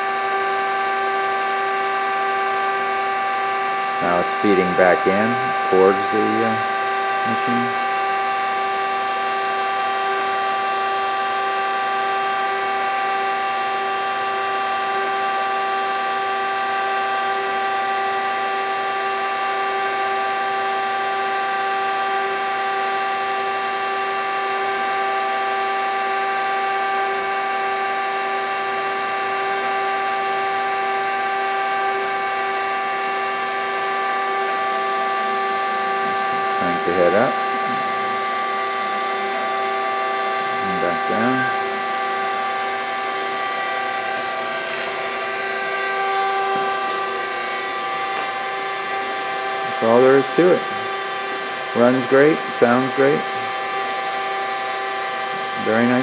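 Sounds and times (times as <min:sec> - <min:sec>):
surface grinder whining: 0:00.0 - 0:56.0.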